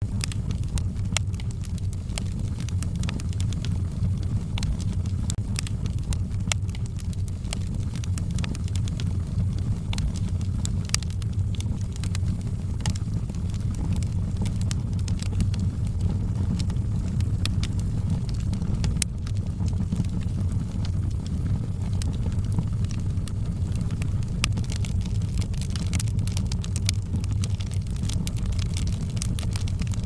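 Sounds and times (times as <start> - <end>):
fire crackling and popping: 0.0 - 30.0
low roar of fire: 0.0 - 30.0.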